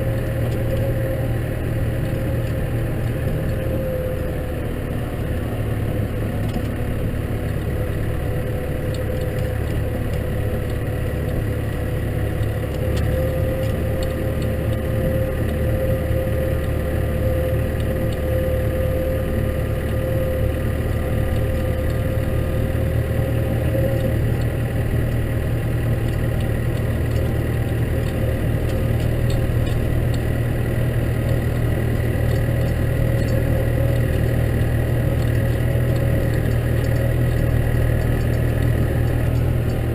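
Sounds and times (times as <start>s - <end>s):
steady whine: 0.0s - 39.9s
tractor diesel engine running: 0.0s - 39.9s.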